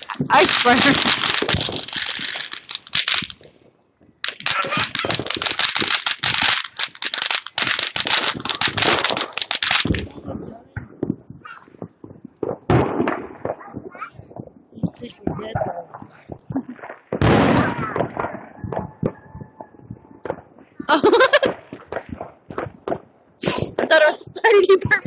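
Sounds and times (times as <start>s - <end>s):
firecrackers popping: 0.0s - 25.0s.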